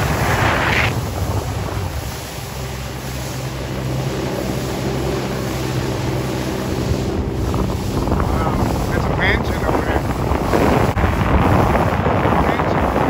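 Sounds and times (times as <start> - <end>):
motorboat engine running: 0.0 - 13.0
water rushing along hull: 0.0 - 13.0
wind on microphone: 0.0 - 13.0.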